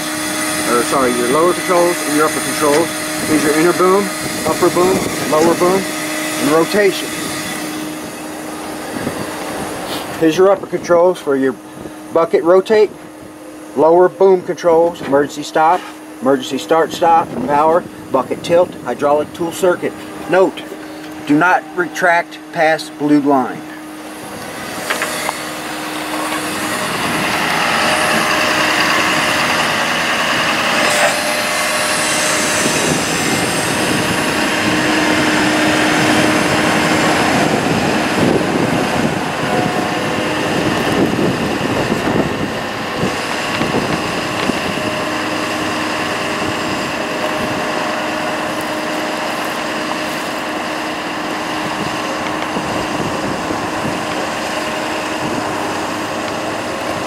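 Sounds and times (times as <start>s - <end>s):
hydraulic whine: 0.0s - 57.0s
truck engine hum: 0.0s - 57.0s.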